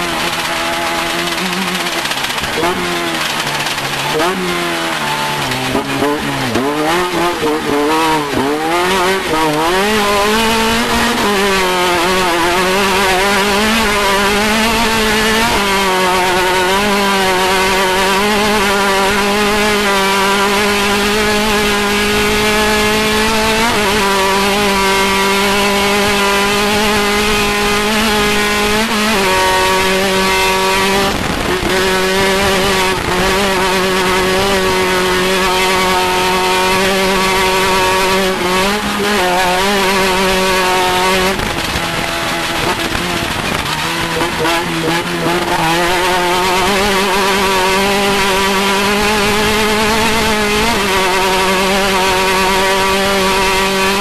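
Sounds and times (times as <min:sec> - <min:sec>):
race vehicle engine running hard: 0:00.0 - 0:54.0.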